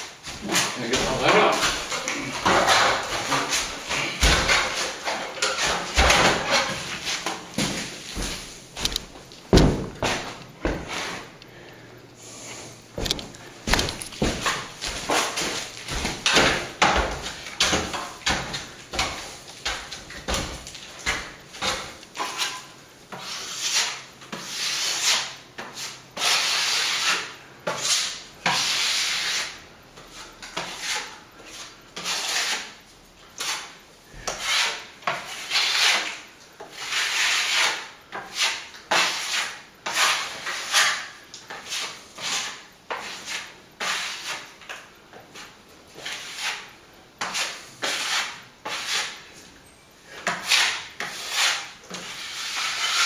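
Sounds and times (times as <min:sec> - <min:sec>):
trowel scraping wet plaster: 0:00.3 - 0:07.9, 0:14.2 - 0:32.8, 0:33.4 - 0:44.6, 0:45.3 - 0:49.3, 0:50.2 - 0:53.0.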